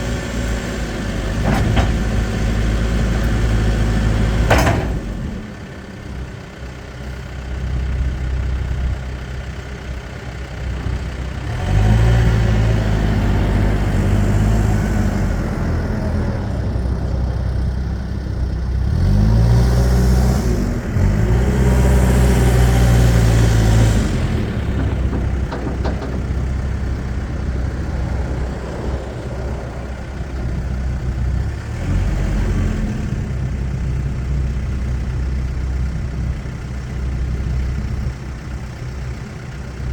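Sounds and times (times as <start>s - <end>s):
backhoe diesel engine revving: 0.0s - 39.9s.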